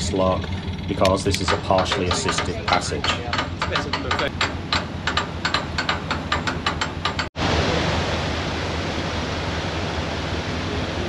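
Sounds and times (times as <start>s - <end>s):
water rushing through lock paddles: 1.0s - 11.0s.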